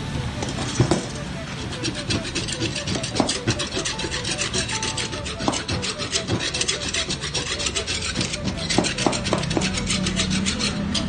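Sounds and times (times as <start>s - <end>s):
hand file rasping on steel: 0.0s - 11.0s.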